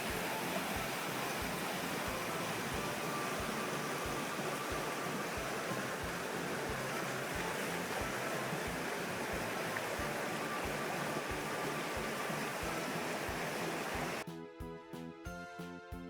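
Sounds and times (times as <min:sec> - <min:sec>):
river water rushing: 0:00.0 - 0:14.2
background music with beat: 0:00.0 - 0:16.0.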